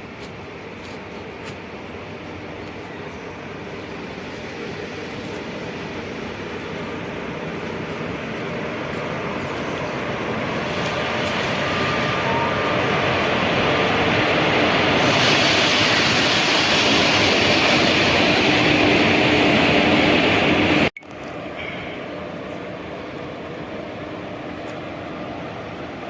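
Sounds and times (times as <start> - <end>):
train approaching: 0.0 - 26.0.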